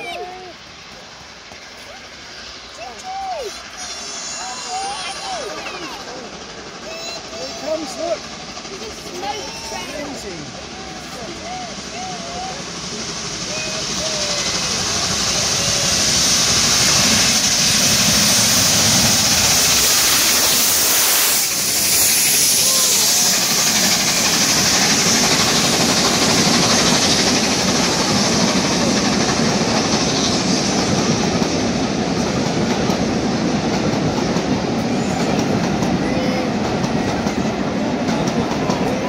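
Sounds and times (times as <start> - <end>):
tornado winds rushing: 0.0 - 39.0.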